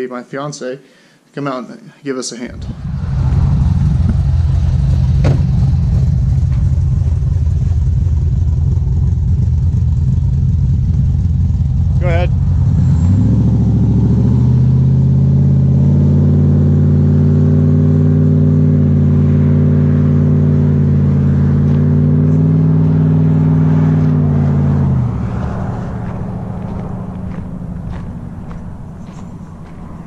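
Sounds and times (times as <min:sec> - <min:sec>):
loud car exhaust accelerating: 0:02.6 - 0:30.0.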